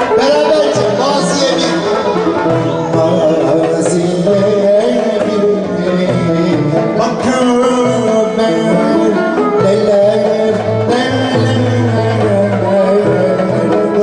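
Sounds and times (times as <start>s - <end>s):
ensemble playing melody: 0.0s - 14.0s
percussion strokes: 0.0s - 14.0s.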